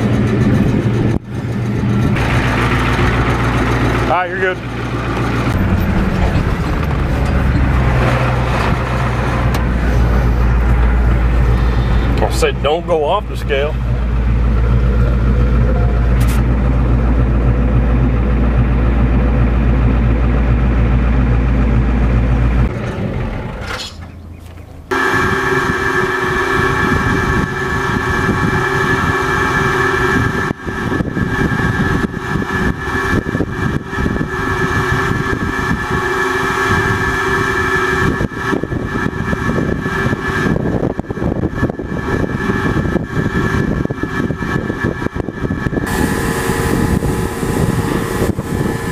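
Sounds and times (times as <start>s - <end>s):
farm machinery whining: 0.0s - 48.9s
truck engine droning inside cab: 0.0s - 48.9s.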